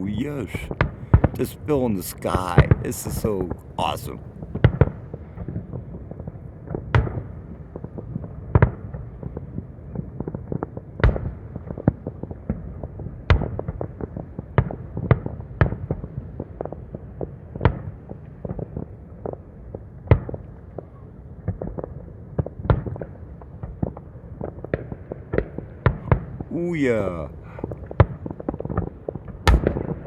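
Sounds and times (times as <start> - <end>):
distant fireworks pops and crackles: 0.0 - 30.0.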